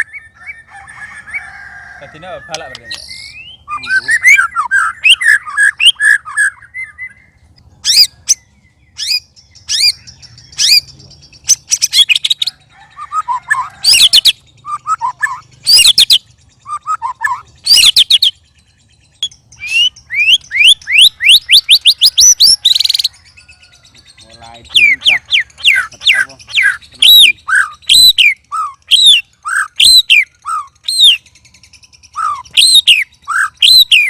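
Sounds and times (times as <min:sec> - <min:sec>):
bird singing whistled notes: 0:02.4 - 0:34.0.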